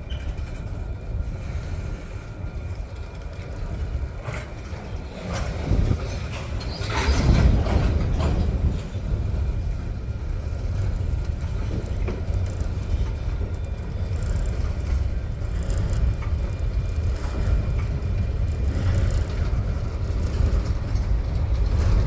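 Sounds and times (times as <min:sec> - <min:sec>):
freight train rumbling: 0:00.0 - 0:22.0
train knocks and clanks: 0:00.0 - 0:22.0.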